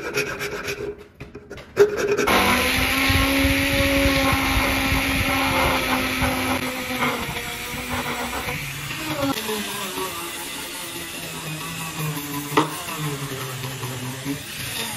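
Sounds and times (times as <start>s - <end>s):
power tool motor humming: 2.3s - 14.9s.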